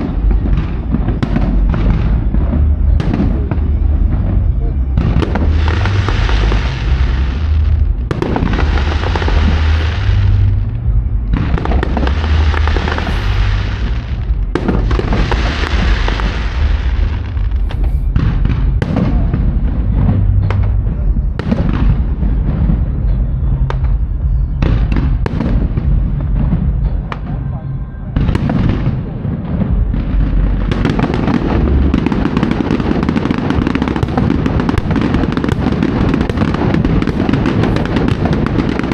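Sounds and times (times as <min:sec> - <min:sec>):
deep rumble: 0:00.0 - 0:38.9
fireworks crackling: 0:00.0 - 0:38.9
fireworks sharp bangs: 0:00.0 - 0:38.9.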